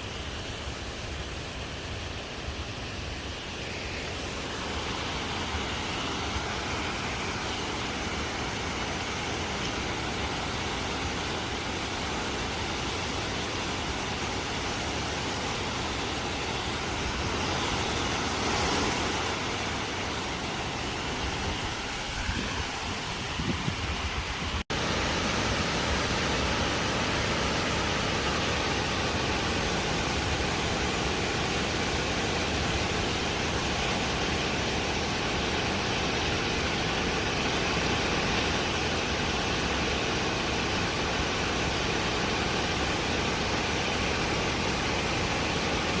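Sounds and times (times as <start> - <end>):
waterfall rushing water: 0.0 - 46.0.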